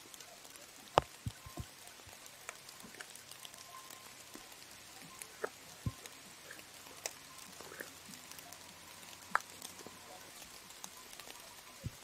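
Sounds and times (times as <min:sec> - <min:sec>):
raindrops ticking: 0:00.0 - 0:12.0
steady rain hiss: 0:00.0 - 0:12.0.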